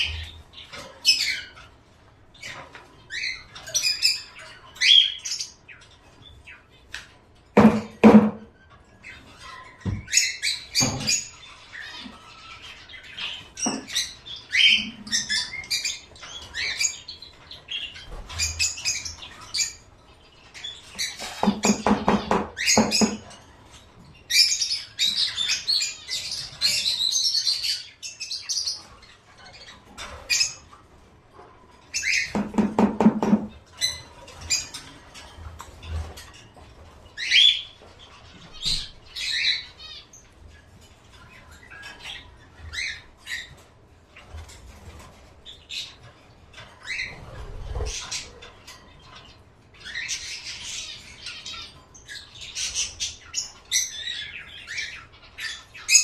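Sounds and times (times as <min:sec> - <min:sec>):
rapid rattling bird chatter: 0:00.0 - 0:56.0
small birds chirping: 0:00.0 - 0:56.0.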